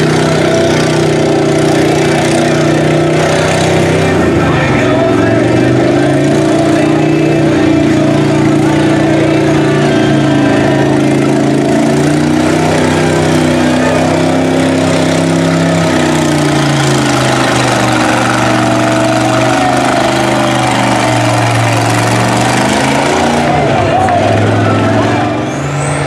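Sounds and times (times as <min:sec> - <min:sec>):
truck engine running under load: 0:00.0 - 0:26.0
tyres pushing through mud: 0:00.0 - 0:26.0.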